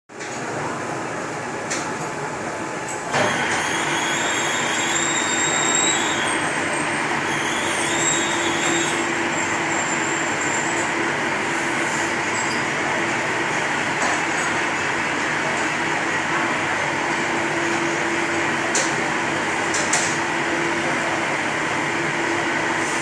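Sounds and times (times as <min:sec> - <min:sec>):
heavy machinery running: 0:00.2 - 0:23.0.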